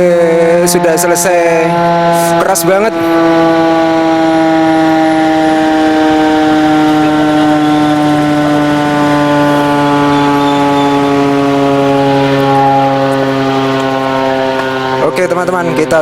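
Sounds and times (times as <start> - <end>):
siren winding down: 0.0 - 16.0.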